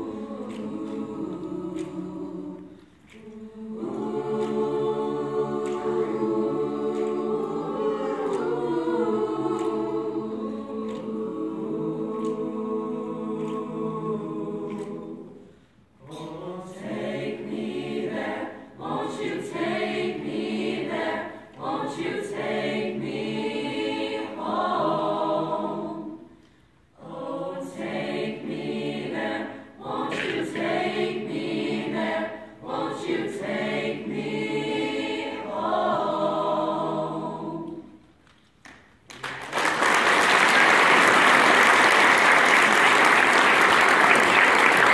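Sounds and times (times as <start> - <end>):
choir singing in harmony: 0.0 - 38.2, 39.7 - 44.9.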